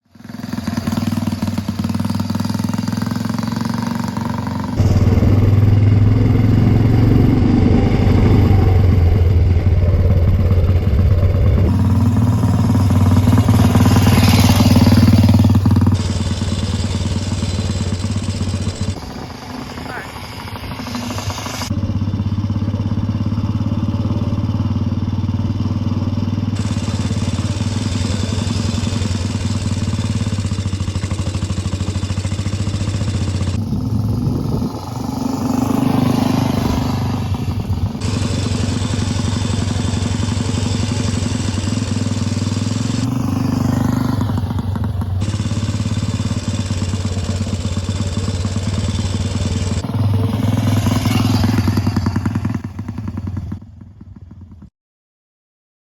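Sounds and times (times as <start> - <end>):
motorcycle engine running: 0.0 - 54.7.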